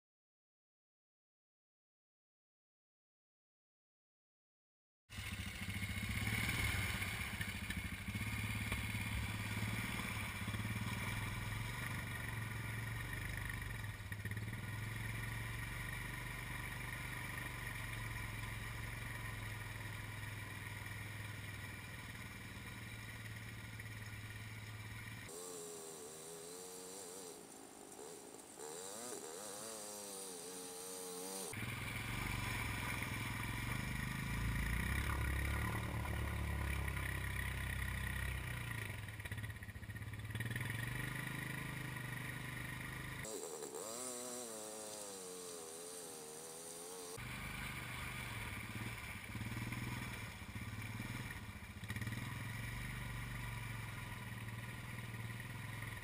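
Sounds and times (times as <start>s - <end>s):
quad bike engine running: 5.1s - 56.0s.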